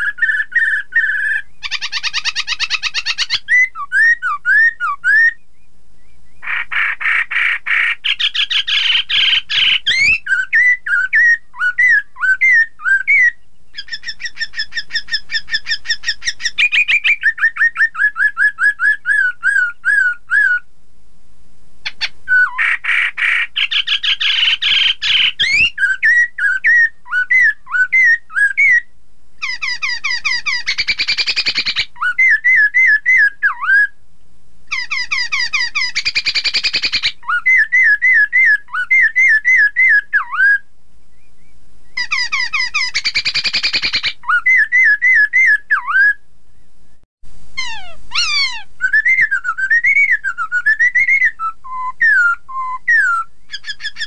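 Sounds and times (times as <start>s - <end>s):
bird singing whistled trills: 0.0s - 20.7s, 21.8s - 34.0s, 34.7s - 47.0s, 47.6s - 54.0s.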